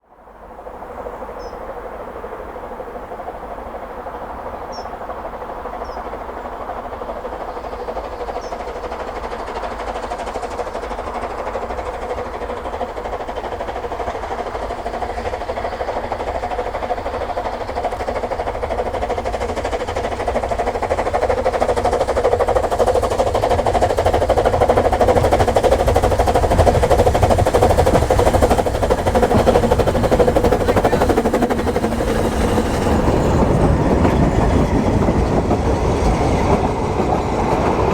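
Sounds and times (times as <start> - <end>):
steam train approaching: 0.0 - 37.9.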